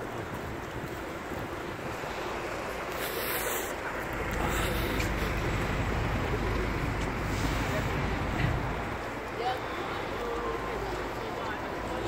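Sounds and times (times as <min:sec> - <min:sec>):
street traffic: 0:00.0 - 0:12.0
wind rumbling on microphone: 0:00.0 - 0:12.0.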